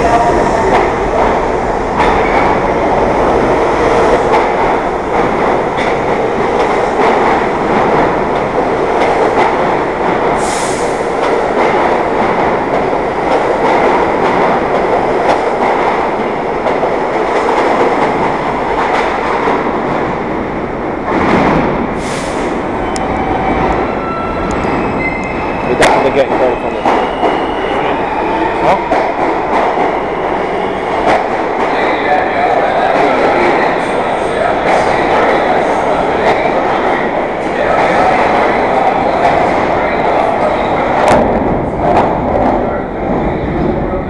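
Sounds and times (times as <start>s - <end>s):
subway train rumbling on rails: 0.0s - 44.0s.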